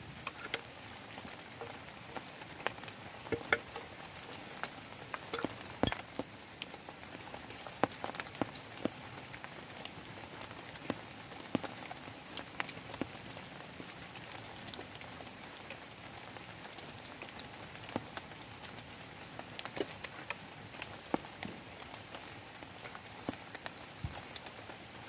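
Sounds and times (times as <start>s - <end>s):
rain on a plastic tarp: 0.0s - 25.0s.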